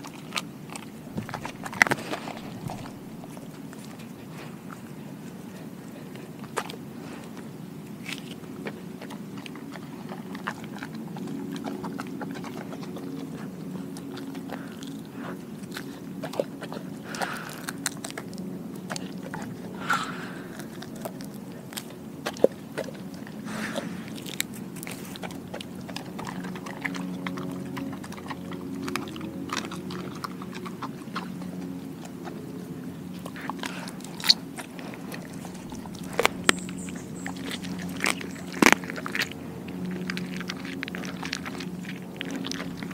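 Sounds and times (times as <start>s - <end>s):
dog chewing raw bones: 0.0s - 42.9s
low steady hum: 0.0s - 42.9s.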